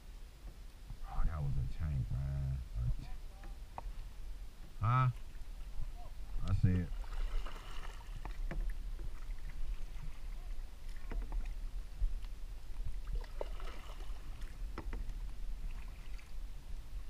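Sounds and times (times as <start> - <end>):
low rumble of water and air: 0.0 - 17.0.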